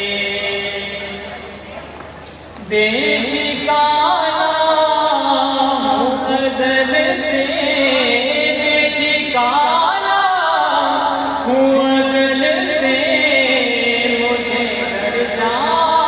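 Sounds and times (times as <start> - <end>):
man chanting into a microphone: 0.0 - 1.4, 2.6 - 16.0.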